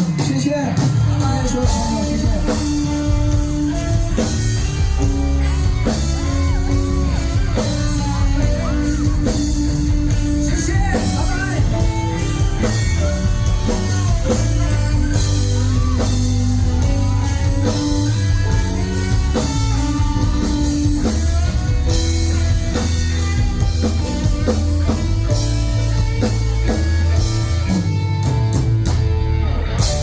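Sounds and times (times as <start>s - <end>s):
bass guitar: 0.0s - 30.0s
drum kit: 0.0s - 30.0s
electric guitar: 0.0s - 30.0s.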